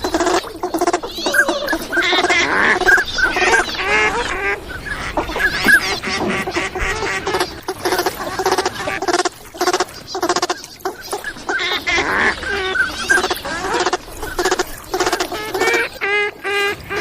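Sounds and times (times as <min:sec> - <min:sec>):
duck-like lure calls: 0:00.0 - 0:04.3, 0:05.2 - 0:16.2.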